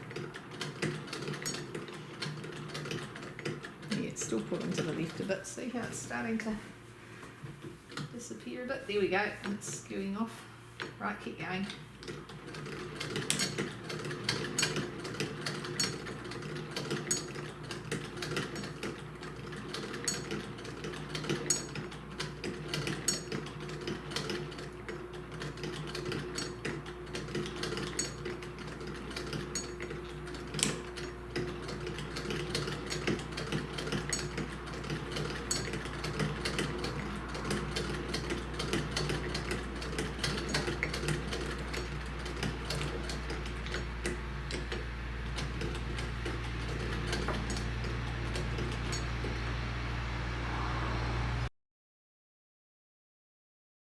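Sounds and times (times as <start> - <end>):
hand-crank sewing machine whirring: 0.0 - 6.6, 7.2 - 10.0, 10.8 - 51.5.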